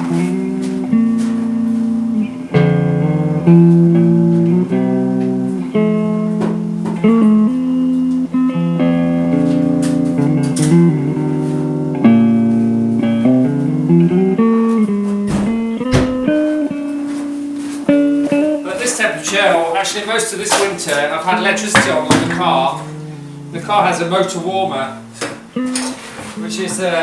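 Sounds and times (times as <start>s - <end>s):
guitar playing chords: 0.0s - 19.8s, 21.0s - 27.0s.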